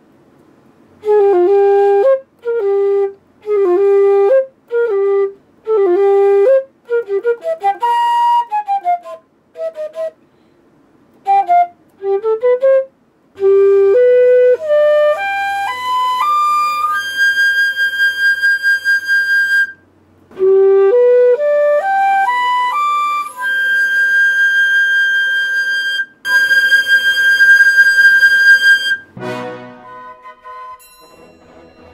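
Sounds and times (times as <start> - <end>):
flute playing: 1.0 - 10.2, 11.2 - 19.8, 20.4 - 31.9.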